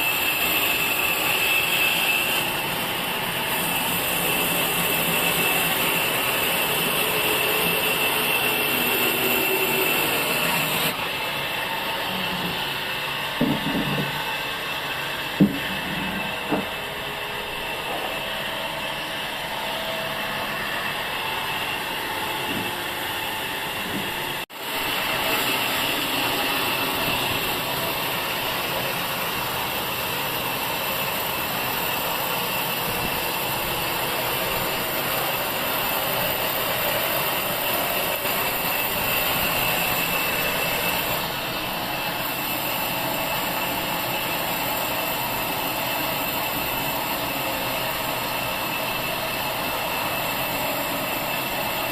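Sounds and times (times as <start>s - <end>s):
sawmill machinery whining: 0.0s - 51.9s.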